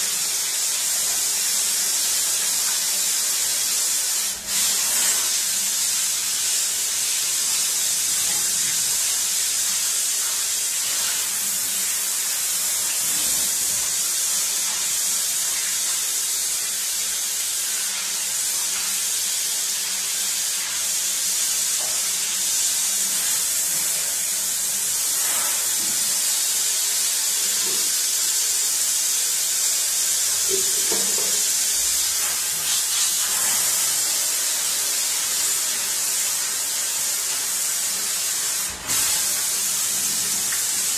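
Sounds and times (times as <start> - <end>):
sink sprayer water hissing: 0.0 - 40.9.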